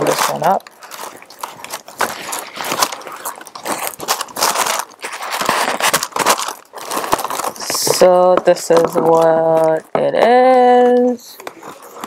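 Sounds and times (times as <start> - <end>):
tissue paper rustling: 0.0 - 9.9.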